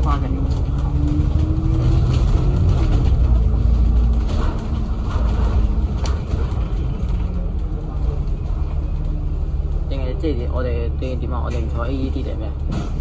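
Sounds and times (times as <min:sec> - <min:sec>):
faint drivetrain whine: 0:00.0 - 0:11.9
bus engine and road rumble: 0:00.0 - 0:13.0.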